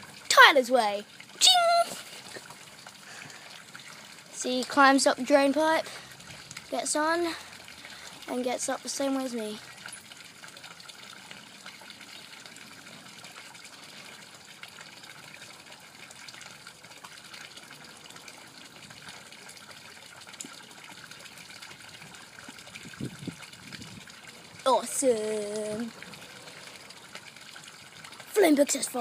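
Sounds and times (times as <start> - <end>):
faint outdoor background hiss: 0.0 - 29.0.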